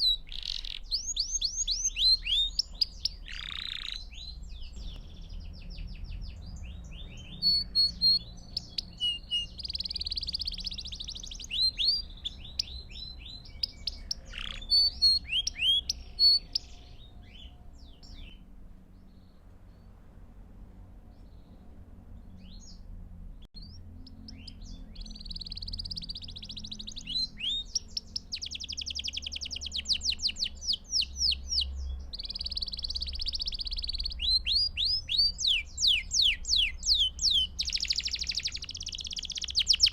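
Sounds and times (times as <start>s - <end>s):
canary singing in trills: 0.0s - 20.0s, 21.0s - 39.9s.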